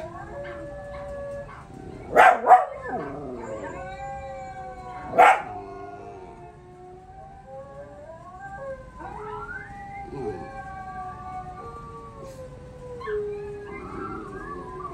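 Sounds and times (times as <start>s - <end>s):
dogs howling: 0.0s - 14.9s.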